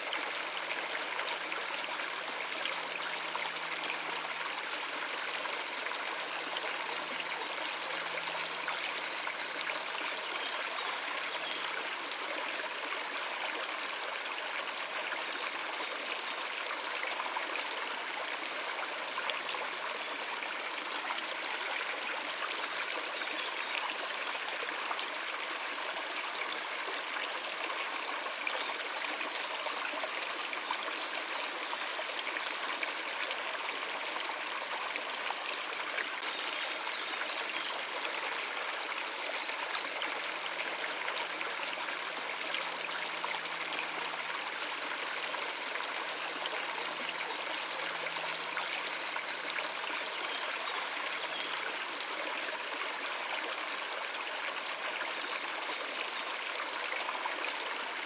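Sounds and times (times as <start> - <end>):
stream water running over rocks: 0.0 - 58.0.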